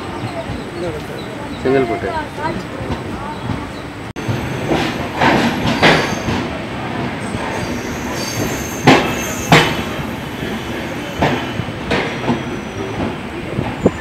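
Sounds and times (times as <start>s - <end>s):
train wheels rumbling: 0.0s - 14.0s
wheels clacking over rail joints: 0.0s - 14.0s.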